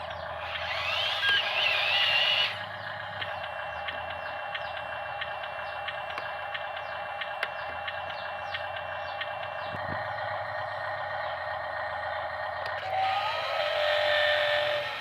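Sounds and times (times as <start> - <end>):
model truck electric motors whining: 0.0 - 15.0.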